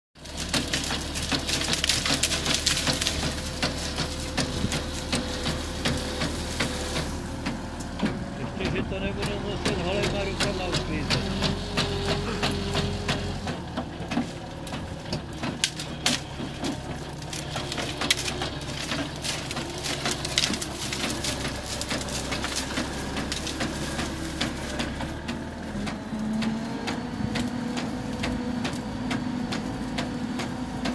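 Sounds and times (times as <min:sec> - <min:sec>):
branches cracking and snapping: 0:00.2 - 0:30.9
diesel engine running: 0:00.2 - 0:30.9.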